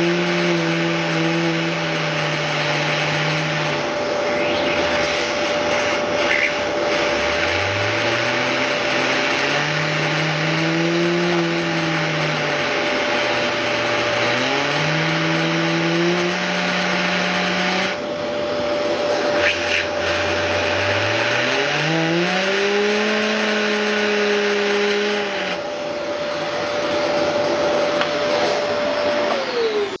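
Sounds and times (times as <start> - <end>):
computer fan hum rising and falling: 0.0 - 30.0
vacuum cleaner whine: 0.0 - 30.0.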